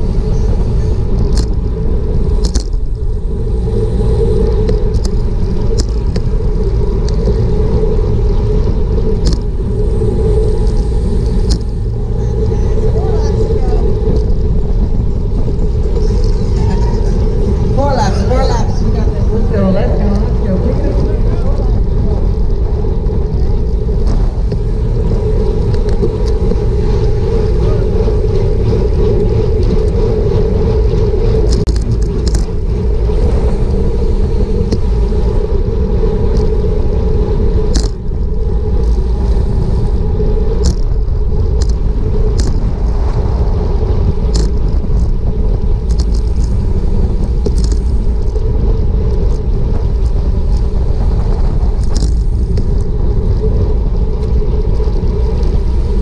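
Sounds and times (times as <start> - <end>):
steady hum: 0.0 - 56.0
tyre noise on asphalt: 0.0 - 56.0
wind rushing over microphone: 0.0 - 56.0.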